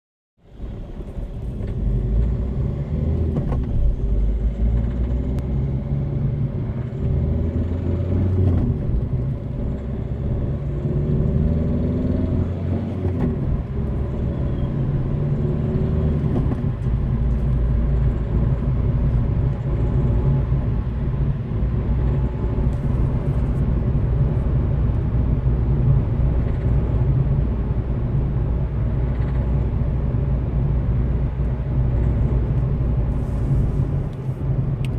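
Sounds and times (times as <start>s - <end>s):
diesel engine revving: 0.6s - 34.9s.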